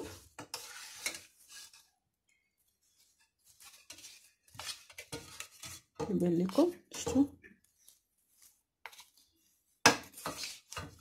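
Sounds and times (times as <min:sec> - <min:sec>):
spoon stirring and scraping chocolate: 0:00.0 - 0:11.0.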